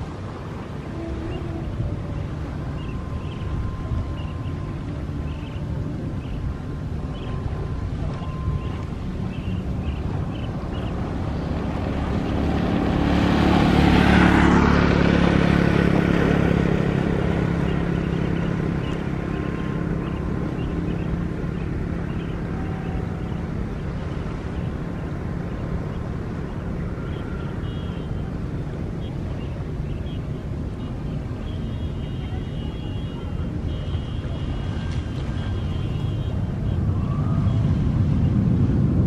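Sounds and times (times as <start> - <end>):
engine passing by: 0.0 - 39.0.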